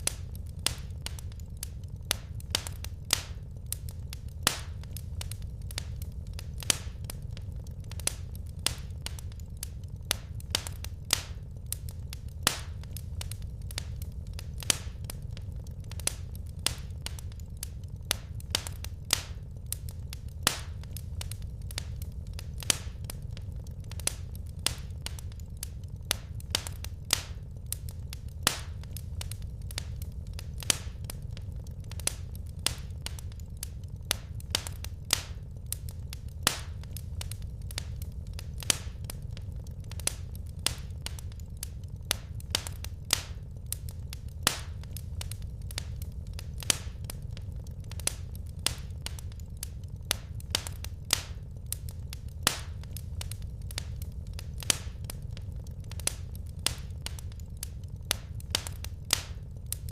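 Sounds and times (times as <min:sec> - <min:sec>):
crackles and pops of burning logs: 0:00.0 - 0:59.9
low rumble of flames: 0:00.0 - 0:59.9.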